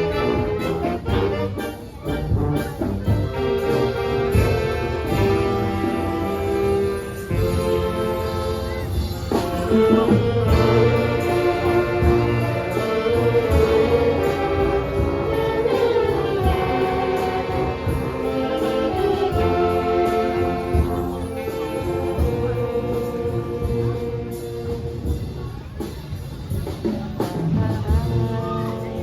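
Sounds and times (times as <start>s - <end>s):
brass melody: 0.0s - 25.3s
bass and drums beat: 0.0s - 29.0s.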